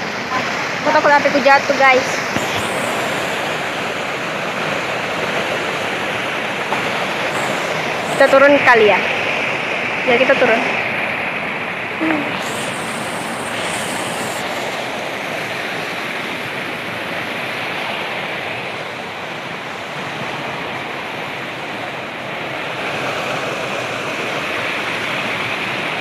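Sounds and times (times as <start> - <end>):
waterfall rushing over rocks: 0.0 - 26.0.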